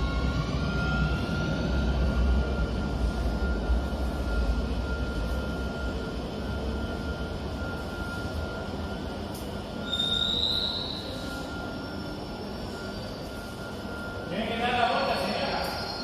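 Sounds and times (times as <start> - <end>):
high wheel squeal: 0.0 - 9.0, 9.7 - 16.0
train rumble: 0.0 - 16.0.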